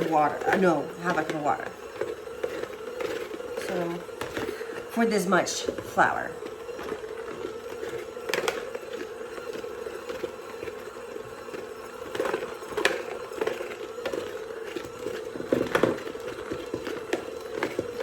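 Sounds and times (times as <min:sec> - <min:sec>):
dough squelching being kneaded: 0:00.0 - 0:18.0.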